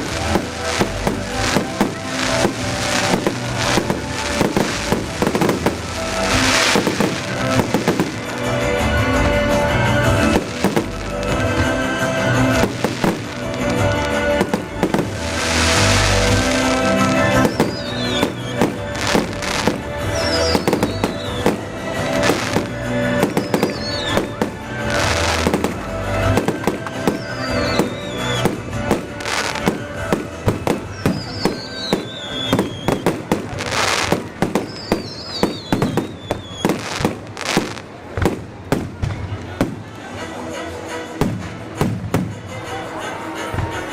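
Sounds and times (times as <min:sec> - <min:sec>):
fireworks bangs and crackles: 0:00.0 - 0:43.9
music playing: 0:00.0 - 0:43.9.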